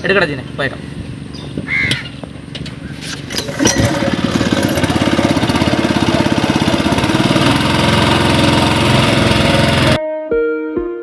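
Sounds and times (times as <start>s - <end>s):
outboard motor puttering: 0.0s - 10.0s.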